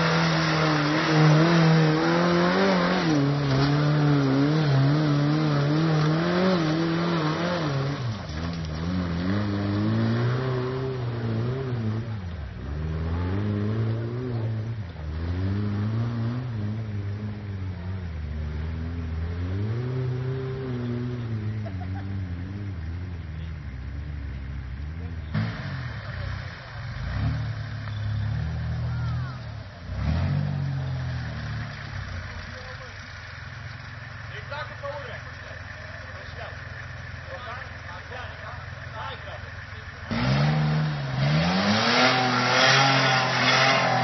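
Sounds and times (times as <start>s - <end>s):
off-road vehicle engine revving: 0.0s - 44.0s.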